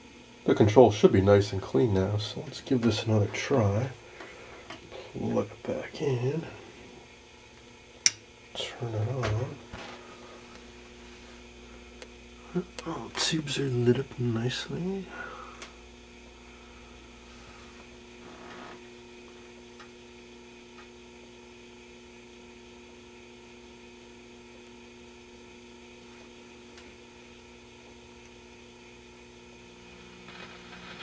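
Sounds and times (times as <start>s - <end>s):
low mains hum from radio: 0.0s - 31.0s.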